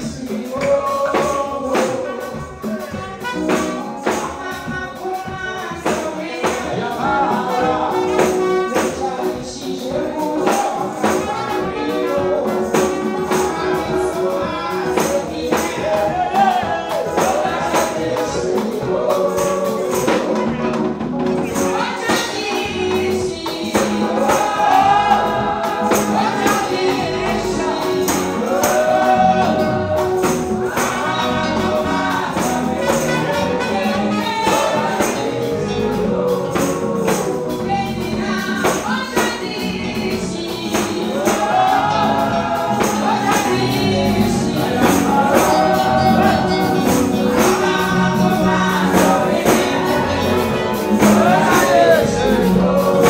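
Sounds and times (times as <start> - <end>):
steady beat with tambourine: 0.0 - 53.0
woman and man singing gospel: 0.0 - 53.0.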